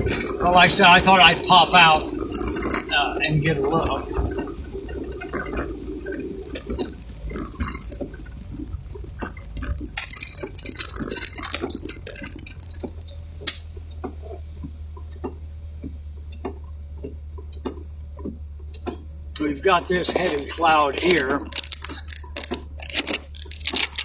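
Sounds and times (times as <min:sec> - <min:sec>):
moving vehicle rumble: 0:00.0 - 0:24.0
raindrops tapping on car roof: 0:00.0 - 0:24.0.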